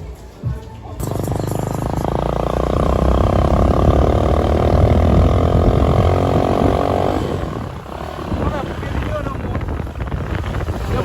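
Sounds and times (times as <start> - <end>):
loud engine running: 1.0 - 11.0.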